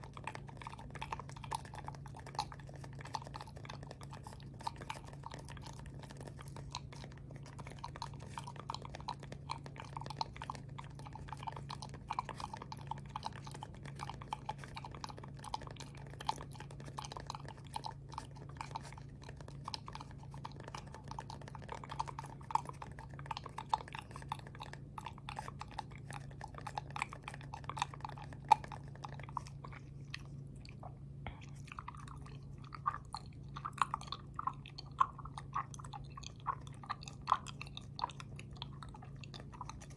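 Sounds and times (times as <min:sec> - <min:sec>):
steady low hum: 0:00.0 - 0:39.9
wet mouth clicks and smacks: 0:00.0 - 0:39.9.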